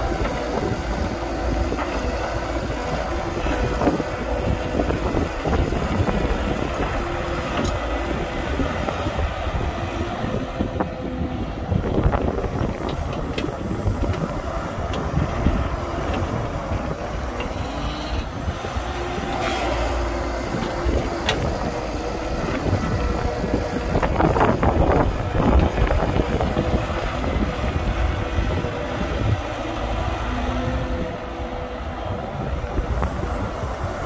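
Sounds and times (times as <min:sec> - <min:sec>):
diesel machinery running: 0:00.0 - 0:34.0.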